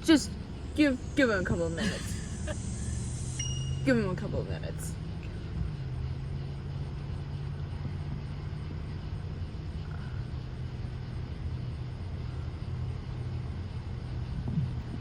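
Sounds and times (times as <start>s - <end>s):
car engine humming inside cabin: 0.0s - 15.0s.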